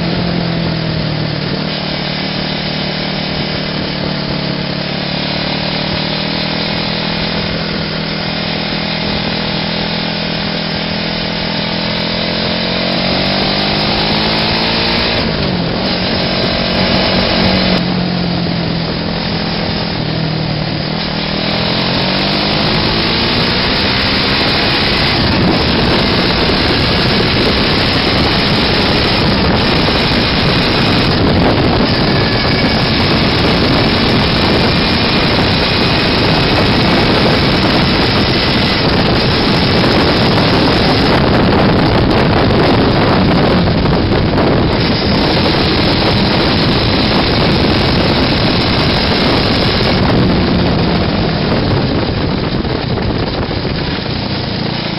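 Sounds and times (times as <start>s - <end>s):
buzzy buggy engine revving: 0.0s - 54.9s
road and wind noise: 0.0s - 54.9s.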